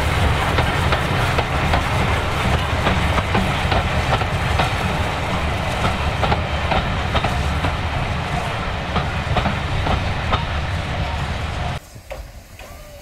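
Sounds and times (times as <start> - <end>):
steam train rumbling past: 0.0 - 13.0
wheels clicking over rail joints: 0.0 - 13.0.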